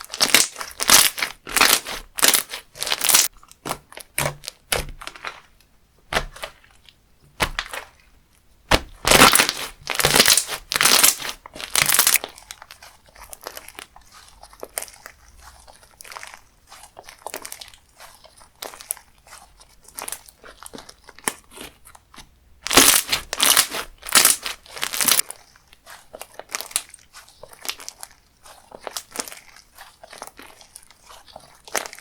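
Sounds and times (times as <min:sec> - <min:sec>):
crunchy slime crackling: 0:00.0 - 0:32.0.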